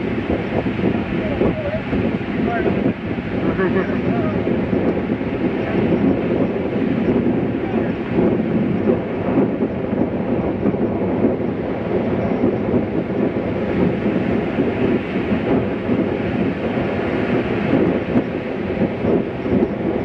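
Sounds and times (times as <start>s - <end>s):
breaking surf: 0.0s - 20.0s
wind buffeting microphone: 0.0s - 20.0s.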